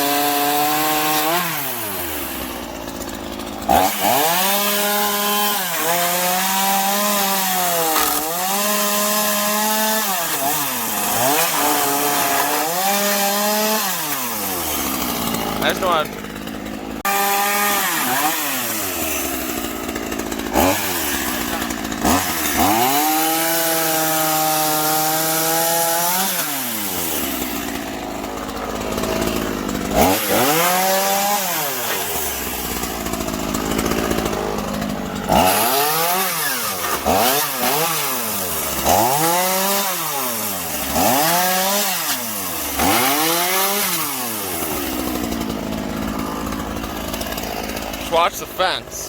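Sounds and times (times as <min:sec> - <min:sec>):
chainsaw engine revving: 0:00.0 - 0:49.0.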